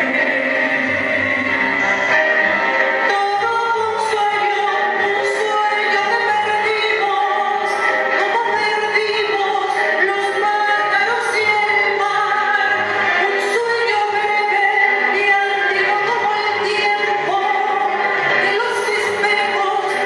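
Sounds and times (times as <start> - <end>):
woman singing: 0.0 - 2.1, 3.0 - 20.0
instrumental accompaniment: 0.0 - 20.0.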